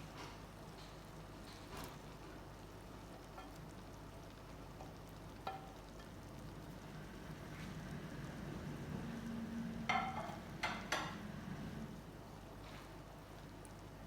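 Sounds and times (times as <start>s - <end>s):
food sizzling in a pot: 1.5s - 13.8s.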